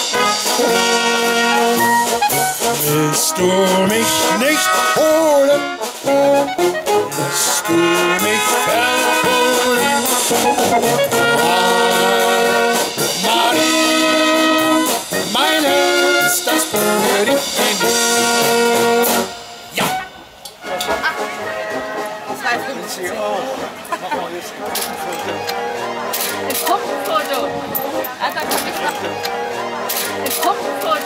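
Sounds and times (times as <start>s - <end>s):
brass band playing lively tune: 0.0s - 31.0s.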